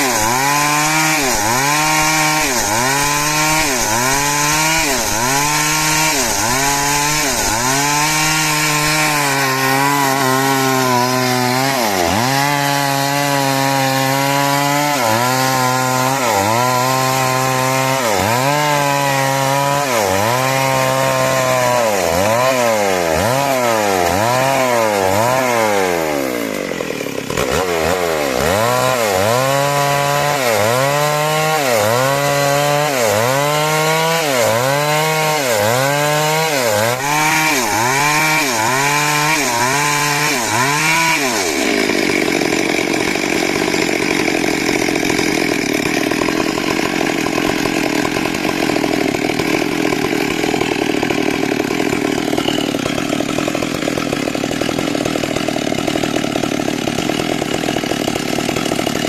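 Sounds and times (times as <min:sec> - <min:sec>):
chainsaw cutting timber: 0:00.0 - 0:59.0.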